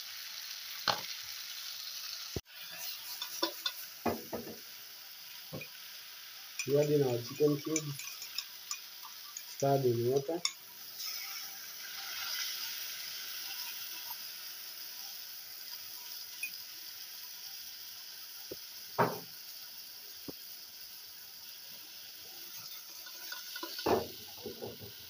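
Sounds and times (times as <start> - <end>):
hot liquid hissing in a pot: 0.0 - 25.0.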